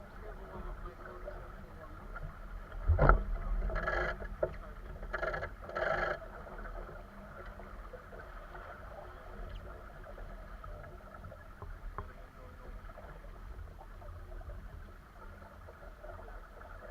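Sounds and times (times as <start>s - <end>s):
water noise: 0.0s - 16.9s.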